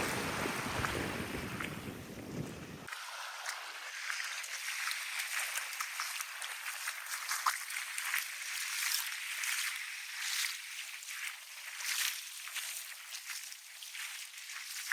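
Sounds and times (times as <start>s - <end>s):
sea water washing over beach: 0.0s - 14.9s.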